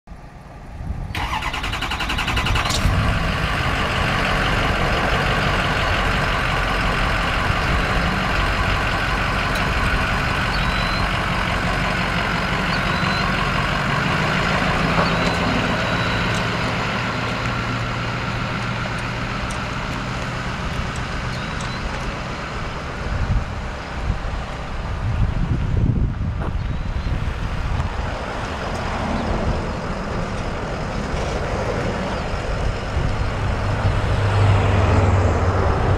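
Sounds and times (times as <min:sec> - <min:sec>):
truck engine starting and running: 0:00.1 - 0:35.9.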